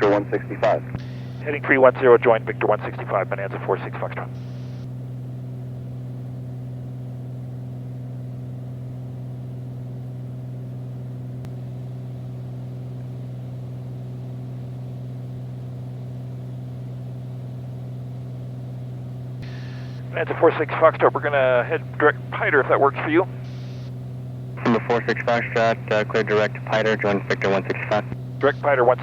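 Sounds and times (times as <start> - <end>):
airplane engine drone in cabin: 0.0 - 29.0.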